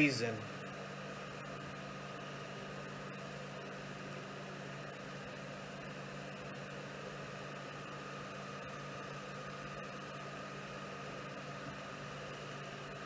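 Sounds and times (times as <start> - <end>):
faint steady whine: 0.0 - 13.0
low mechanical hum: 0.0 - 13.0.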